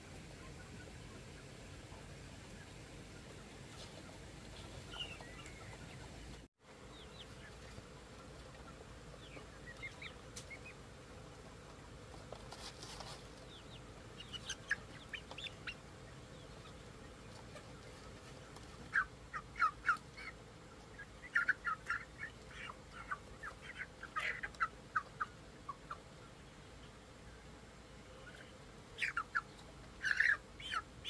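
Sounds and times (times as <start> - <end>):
chicks cheeping: 0.0 - 27.0, 28.2 - 31.0.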